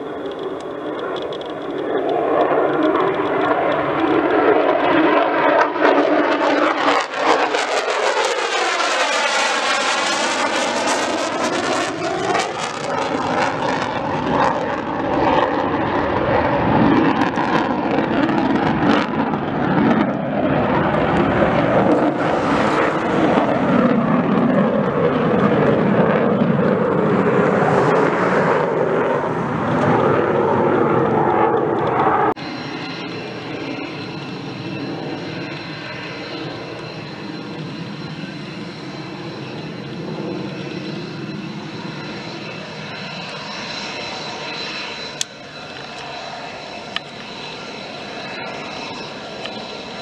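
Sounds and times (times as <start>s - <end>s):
jet engine roar: 0.0s - 50.0s
jet passing whoosh: 0.0s - 50.0s.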